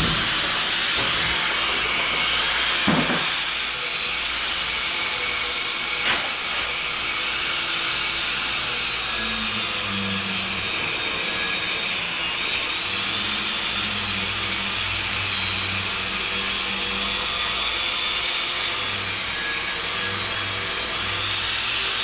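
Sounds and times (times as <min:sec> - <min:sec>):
loud hissing machine noise: 0:00.0 - 0:22.0.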